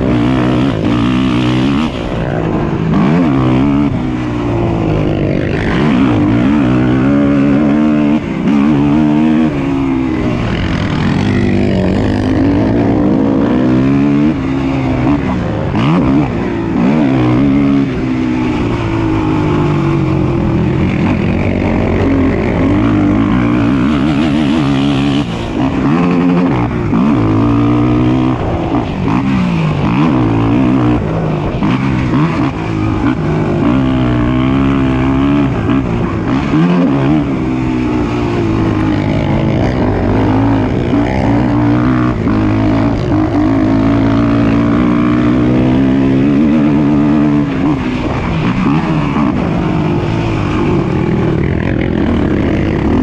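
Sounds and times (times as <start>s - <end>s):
atv engines revving: 0.0s - 53.0s.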